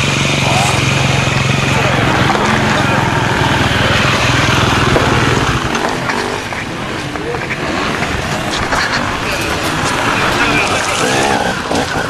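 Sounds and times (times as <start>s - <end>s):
motorcycle engine running: 0.0s - 12.0s
people's voices: 0.0s - 12.0s.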